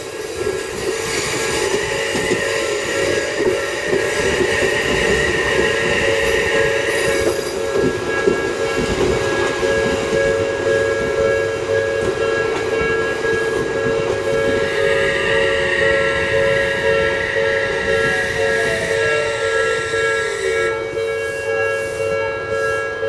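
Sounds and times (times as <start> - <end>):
crossing warning bell ringing: 0.0 - 23.0
train rumble and wheel clatter: 0.0 - 23.0.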